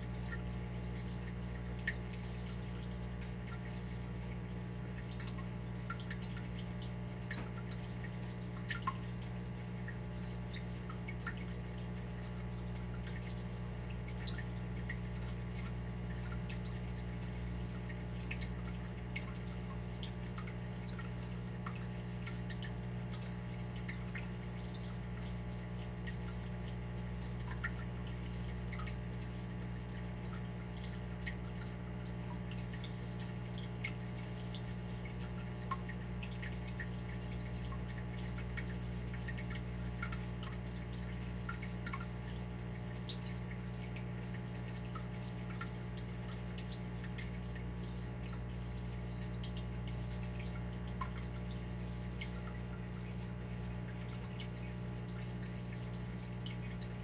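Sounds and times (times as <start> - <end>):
water dripping: 0.0 - 57.0.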